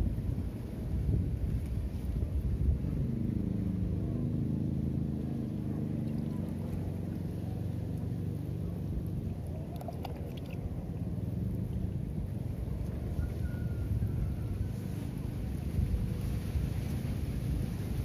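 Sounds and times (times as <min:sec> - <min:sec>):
motor engine running: 0:01.8 - 0:18.0.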